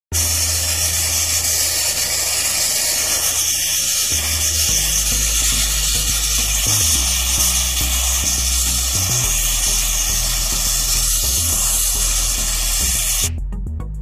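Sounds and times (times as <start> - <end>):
sandblasting hiss on metal: 0.1 - 13.3
low hum: 0.1 - 14.0.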